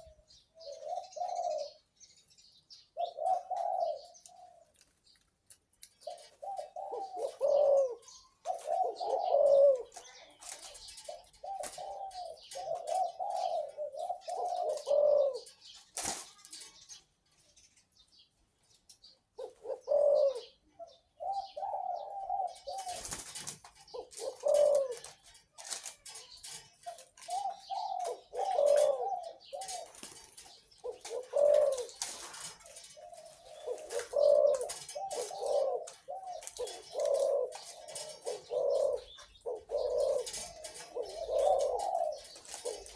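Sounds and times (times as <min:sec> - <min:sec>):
dove cooing: 0:00.0 - 0:02.0, 0:02.9 - 0:04.8, 0:06.0 - 0:16.9, 0:19.3 - 0:42.9.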